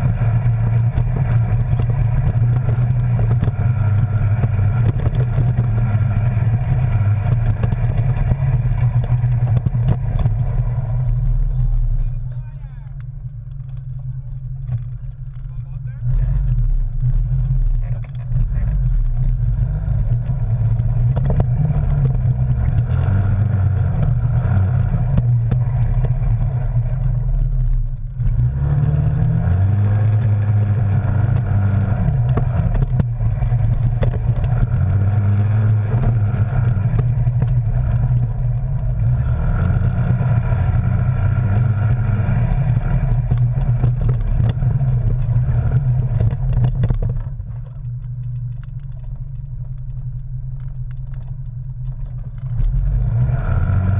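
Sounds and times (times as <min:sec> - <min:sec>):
off-road vehicle engine revving: 0:00.0 - 0:53.9.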